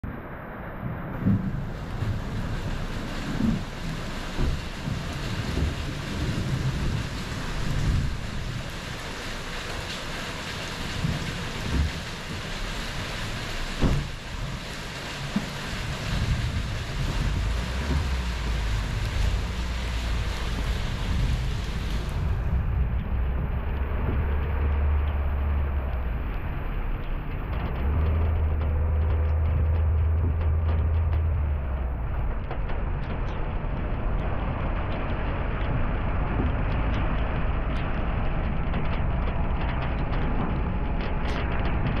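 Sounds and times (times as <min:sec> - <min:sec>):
wind on microphone: 0:00.0 - 0:09.9, 0:10.6 - 0:42.0
low rumble of moving car: 0:00.0 - 0:42.0
rain on a car hood: 0:00.0 - 0:42.0.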